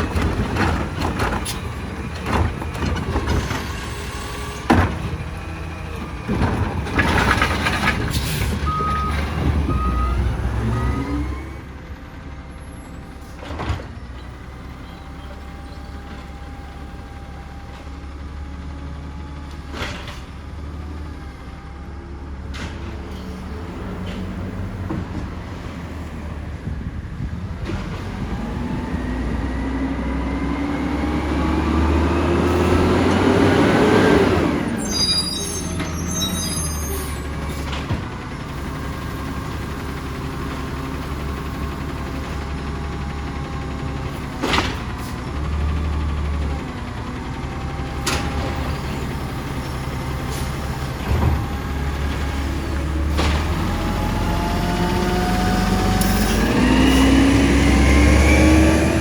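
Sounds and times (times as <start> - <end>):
garbage truck engine: 0.0 - 59.0.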